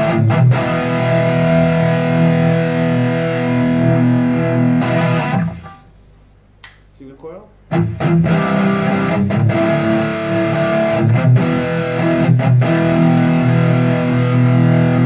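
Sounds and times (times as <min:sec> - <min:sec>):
distorted electric guitar strumming: 0:00.0 - 0:05.9, 0:07.7 - 0:15.0.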